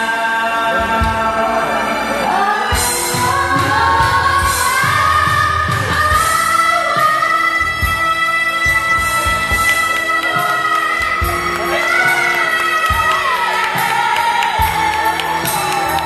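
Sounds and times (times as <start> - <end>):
band playing: 0.0 - 16.0
person singing pop ballad: 0.0 - 16.0.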